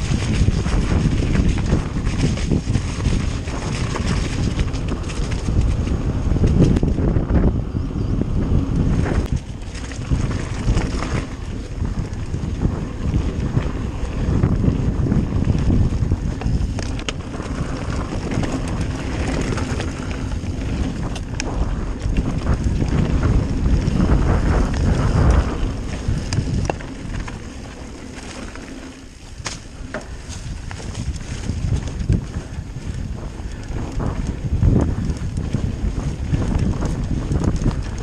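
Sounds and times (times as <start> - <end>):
bike clicks and rattles: 0.0 - 38.0
tyres rumbling on rough trail: 0.0 - 38.0
wind buffeting microphone: 0.0 - 38.0.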